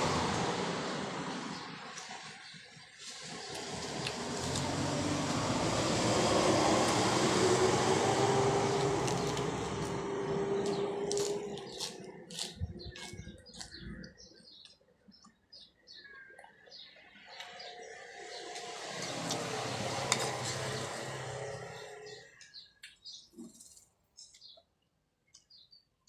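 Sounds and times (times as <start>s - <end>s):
small birds chirping: 1.4s - 26.0s.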